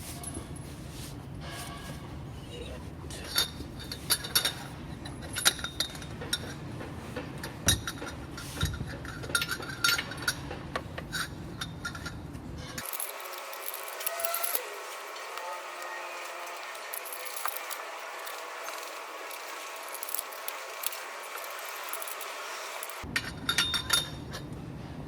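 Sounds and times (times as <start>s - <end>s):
metal tools clinking: 3.1s - 24.4s.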